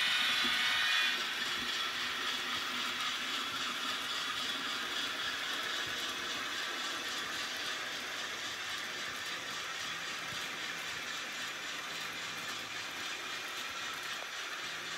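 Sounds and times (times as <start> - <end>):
model train wheels and motor whir: 0.0 - 14.9.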